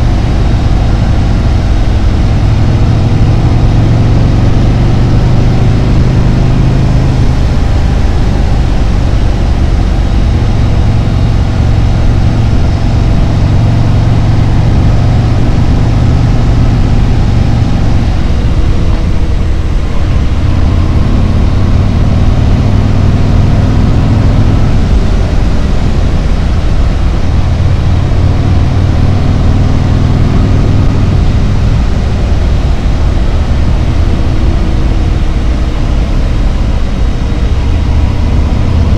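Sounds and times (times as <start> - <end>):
motorcycle engine running: 0.0 - 38.9
road noise: 0.0 - 38.9
wind: 0.0 - 38.9.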